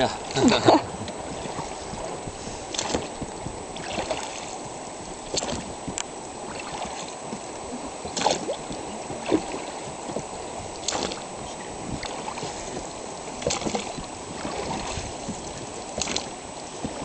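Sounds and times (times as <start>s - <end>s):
river water rushing: 0.0s - 17.0s
sharp splashes and knocks: 1.1s - 7.4s, 8.0s - 17.0s.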